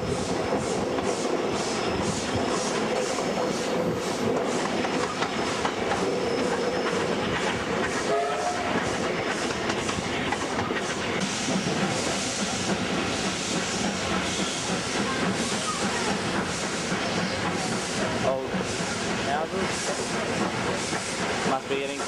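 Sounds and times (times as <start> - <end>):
steam locomotive exhaust beats: 0.0 - 22.0
train rumble and clatter: 0.0 - 22.0.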